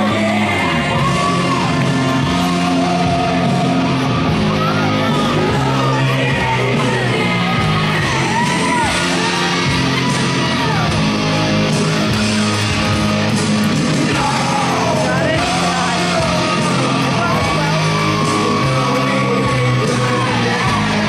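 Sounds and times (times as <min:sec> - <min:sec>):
rock song over sound system: 0:00.0 - 0:21.0.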